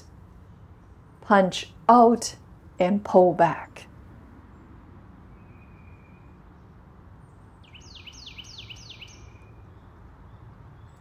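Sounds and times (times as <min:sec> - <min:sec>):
low outdoor background hum: 0:00.0 - 0:11.0.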